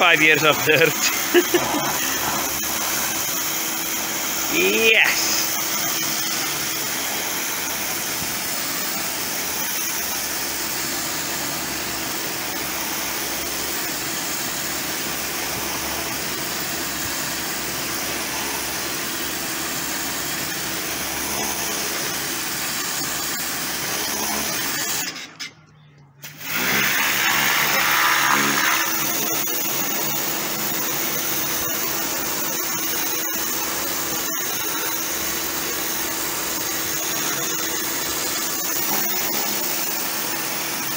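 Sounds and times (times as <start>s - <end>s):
high-pressure water jet hissing: 0.0s - 25.3s, 26.2s - 40.9s
pressure washer motor humming: 0.0s - 25.4s, 26.2s - 40.9s.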